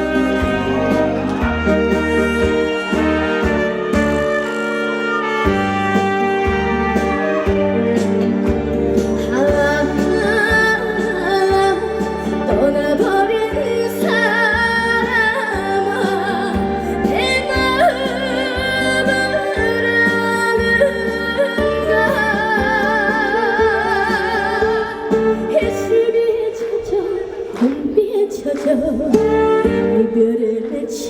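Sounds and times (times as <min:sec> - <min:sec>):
lead melody with wide vibrato: 0:00.0 - 0:26.6.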